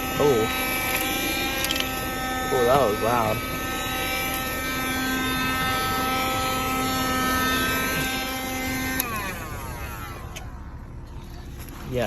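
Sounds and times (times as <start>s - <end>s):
handheld vacuum whine: 0.0s - 11.8s.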